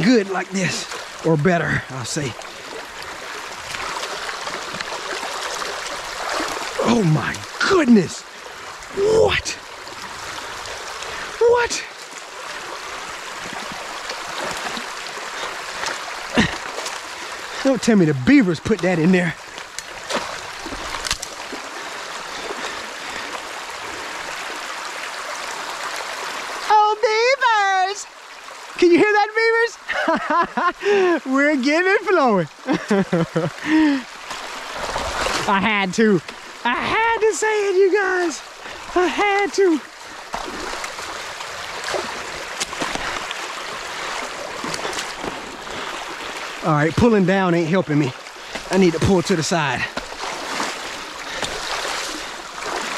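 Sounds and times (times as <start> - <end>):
creek water rushing: 0.0 - 52.9.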